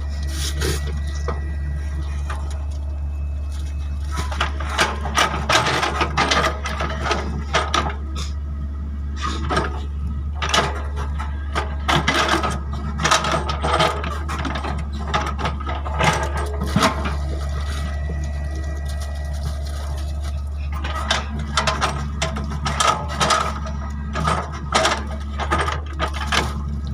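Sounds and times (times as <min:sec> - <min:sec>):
excavator engine running: 0:00.0 - 0:26.9
metallic clanking and rattling: 0:03.6 - 0:08.4, 0:09.2 - 0:26.9.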